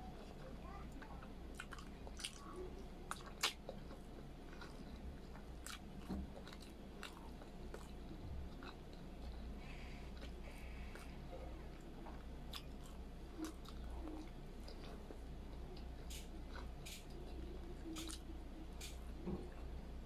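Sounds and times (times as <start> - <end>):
chewing: 0.2 - 19.8.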